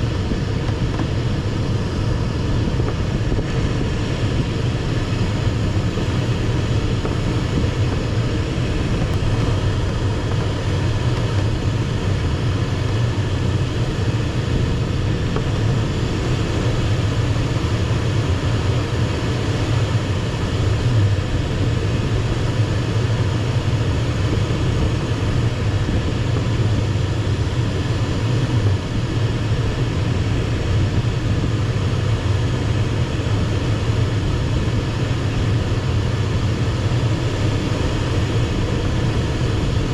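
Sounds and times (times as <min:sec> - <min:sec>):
airflow rushing in cockpit: 0:00.0 - 0:39.9.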